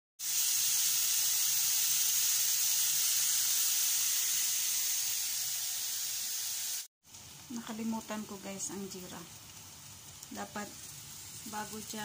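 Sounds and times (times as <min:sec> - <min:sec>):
onions sizzling in oil: 0:00.2 - 0:12.0.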